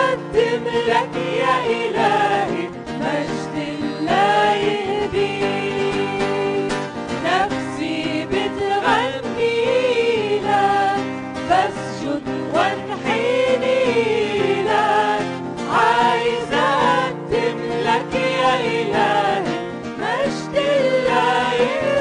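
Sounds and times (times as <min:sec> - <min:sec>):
person singing a hymn: 0:00.0 - 0:22.0.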